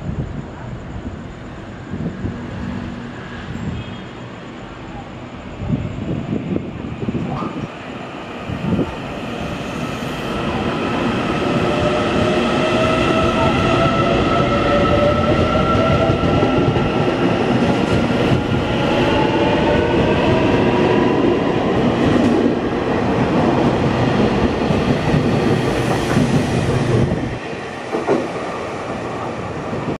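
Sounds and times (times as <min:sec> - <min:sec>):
train wheel rumble and clickety-clack: 0:00.0 - 0:30.0.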